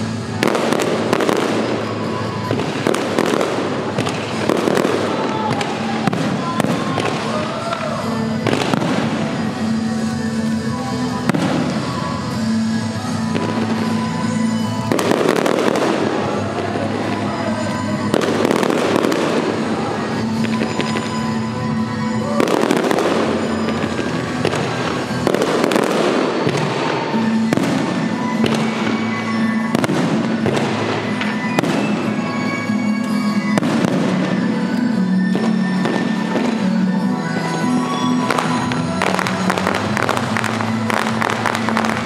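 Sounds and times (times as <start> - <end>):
firework crackles: 0.0 - 42.0
music playing: 0.0 - 42.0.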